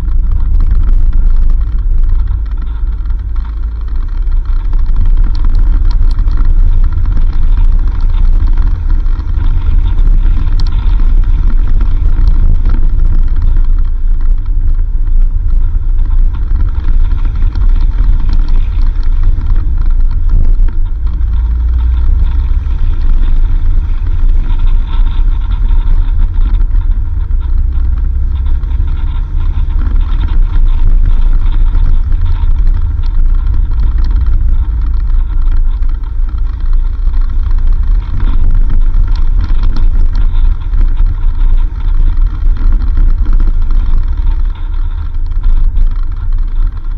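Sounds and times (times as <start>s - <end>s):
vehicle engine and road rumble: 0.0s - 46.9s.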